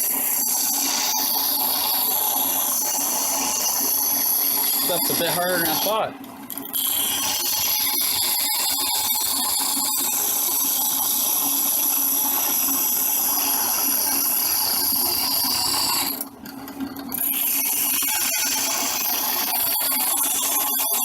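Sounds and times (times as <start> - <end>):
drill press running: 0.0 - 21.0
file scraping spinning metal: 0.0 - 21.0.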